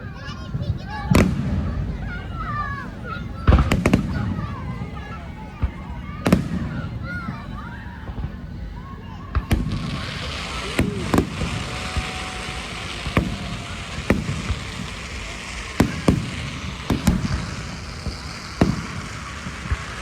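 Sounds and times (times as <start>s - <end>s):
firework shells banging: 0.5s - 20.0s.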